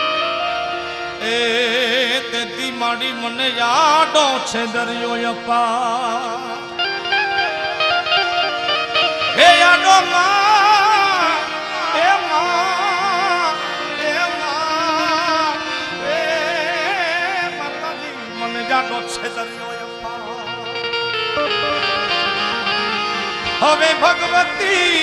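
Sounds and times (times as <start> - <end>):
held instrumental drone: 0.0 - 25.0
man singing devotional melody: 0.0 - 25.0.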